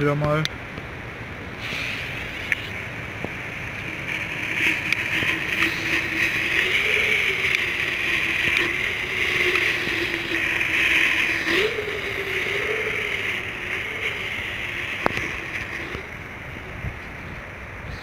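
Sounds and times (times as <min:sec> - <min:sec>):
ground spinners hissing: 0:01.0 - 0:18.0
small crackles: 0:01.6 - 0:16.2
wavering whistle tone: 0:01.6 - 0:16.7.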